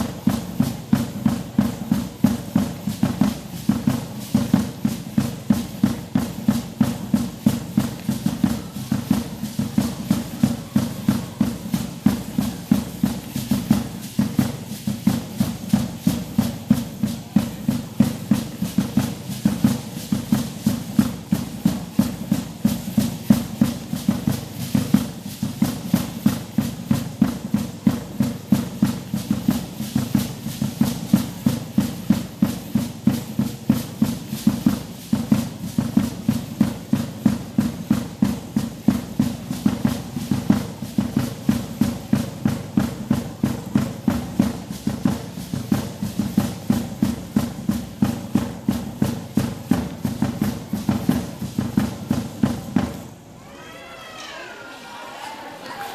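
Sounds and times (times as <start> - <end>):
drum beating fast rhythm: 0.0 - 53.3
gourd rattles shaking: 1.6 - 53.2.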